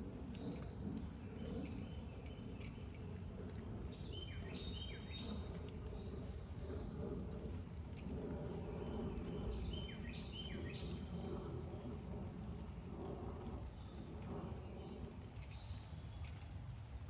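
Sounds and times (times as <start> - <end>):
low background rumble: 0.0 - 17.0
birds chirping: 0.1 - 17.0.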